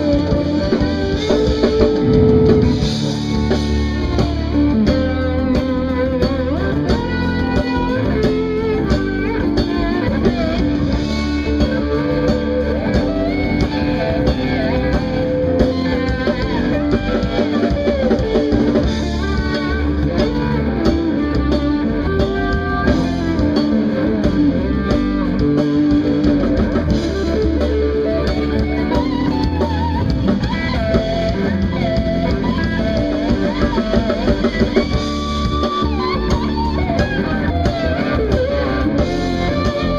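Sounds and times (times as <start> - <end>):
bass: 0.0 - 39.9
drum kit: 0.0 - 39.9
electric guitar lead: 0.0 - 39.9.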